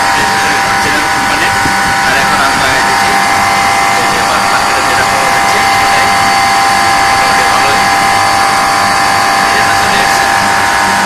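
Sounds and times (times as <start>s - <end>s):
air conditioner unit whirring: 0.0s - 11.0s.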